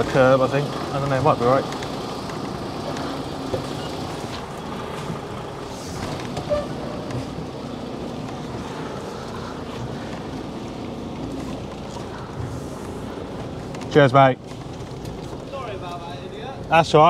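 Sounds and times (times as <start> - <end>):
lorry engine running: 0.0 - 17.0.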